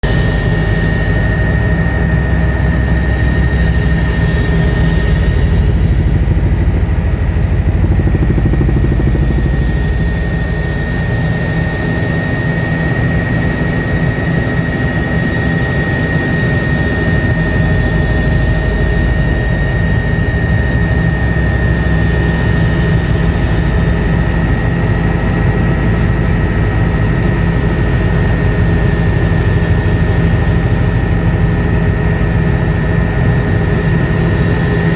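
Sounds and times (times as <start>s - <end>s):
helicopter running: 0.0s - 34.9s.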